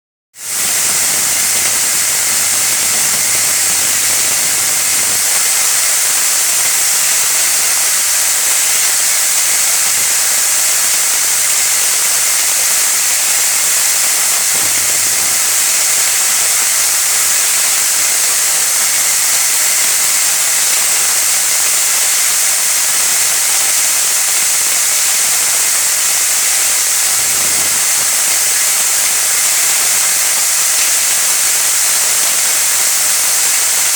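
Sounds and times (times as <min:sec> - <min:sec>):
steady hiss: 0:00.4 - 0:33.9.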